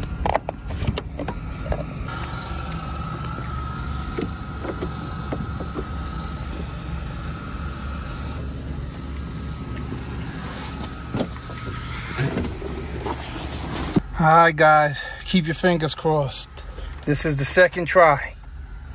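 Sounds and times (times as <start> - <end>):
vehicle engine idling: 0.0 - 18.9
high whine: 1.5 - 18.9.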